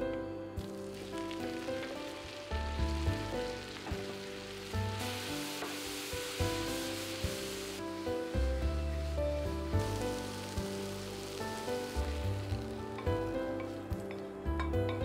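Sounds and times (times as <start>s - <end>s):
background music: 0.0s - 15.0s
mushrooms sizzling in a pan: 0.6s - 14.2s.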